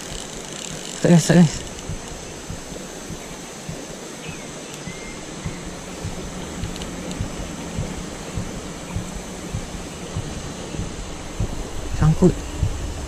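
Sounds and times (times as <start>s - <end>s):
faint low knocks: 0.0s - 13.0s
river water rushing: 0.0s - 13.0s.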